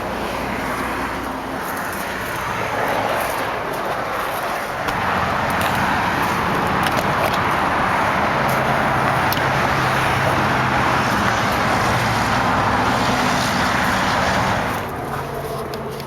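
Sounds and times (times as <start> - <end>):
vehicle engine hum and rush: 0.0 - 16.0.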